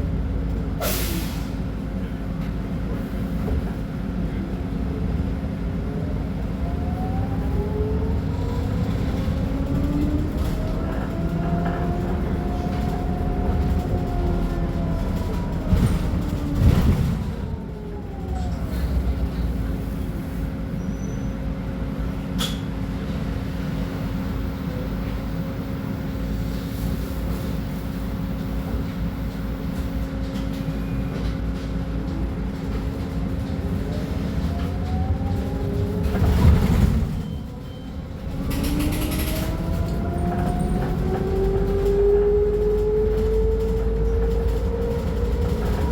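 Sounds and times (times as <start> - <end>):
bus drivetrain whine: 0.0 - 45.9
bus engine idling: 0.0 - 45.9.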